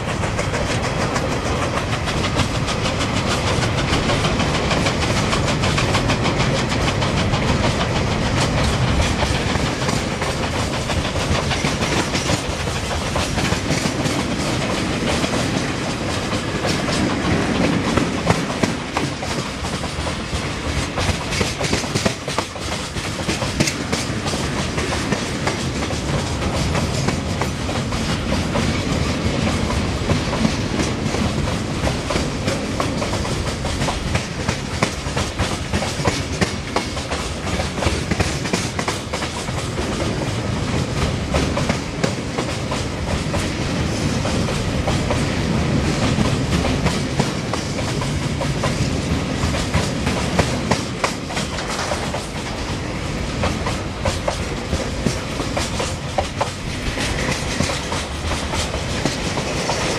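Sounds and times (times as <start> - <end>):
low train rumble: 0.0 - 59.9
train wheels clattering over rail joints: 0.0 - 59.9.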